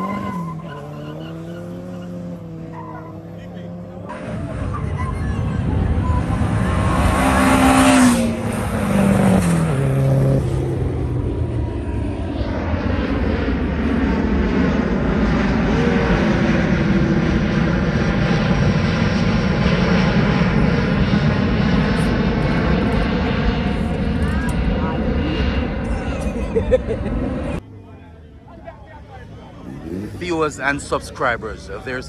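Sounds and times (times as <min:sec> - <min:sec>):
car engines rumbling: 0:00.0 - 0:32.0
loud car passing: 0:00.0 - 0:32.0.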